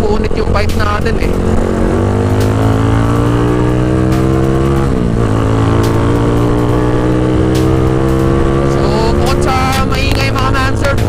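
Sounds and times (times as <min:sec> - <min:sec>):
loud motorcycle engine revving: 0:00.0 - 0:11.0.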